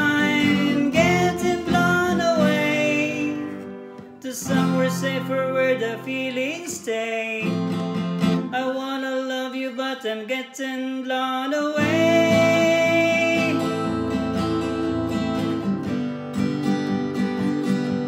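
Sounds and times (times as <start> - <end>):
instrumental guitar music: 0.0 - 8.6, 11.8 - 18.0.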